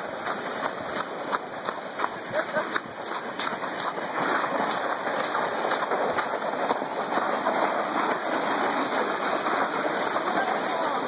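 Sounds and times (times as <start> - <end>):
plastic sled scraping over slushy snow: 0.0 - 11.0.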